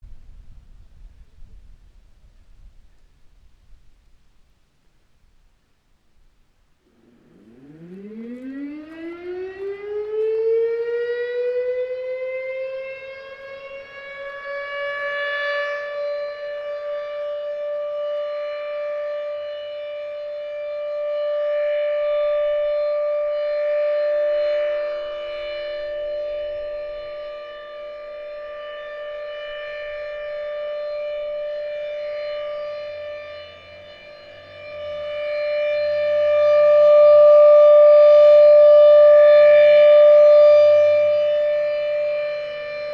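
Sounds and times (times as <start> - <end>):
rotating warning siren: 6.3 - 42.9.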